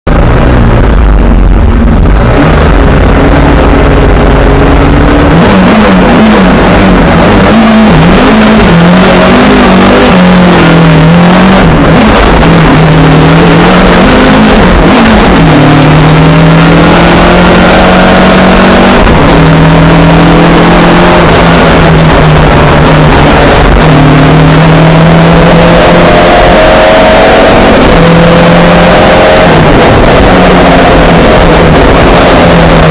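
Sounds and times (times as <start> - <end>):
rally car engine revving hard: 0.1 - 32.9.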